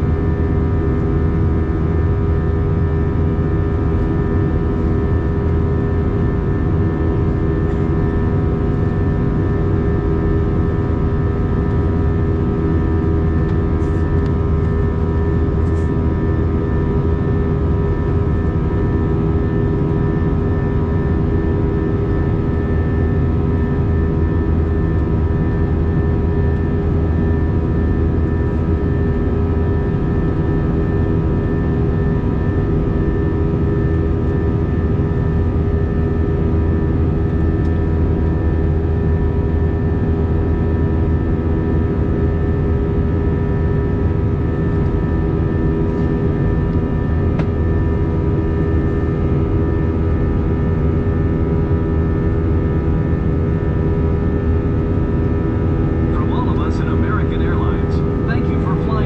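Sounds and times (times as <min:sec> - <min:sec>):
jet engine and airflow rumble: 0:00.0 - 0:59.0.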